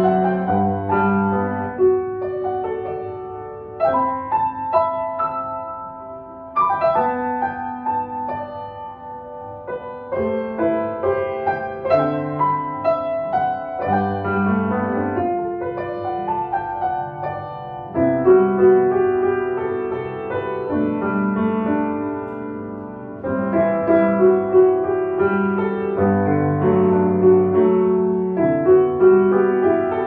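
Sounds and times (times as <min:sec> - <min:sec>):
solo grand piano: 0:00.0 - 0:30.0.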